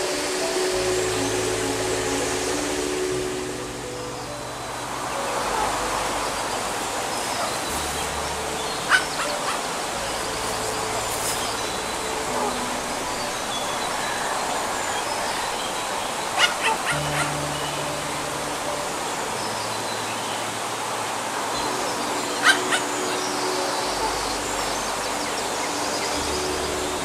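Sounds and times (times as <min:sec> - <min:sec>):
soft background music: 0:00.0 - 0:27.0
steady rushing hiss: 0:00.0 - 0:27.0.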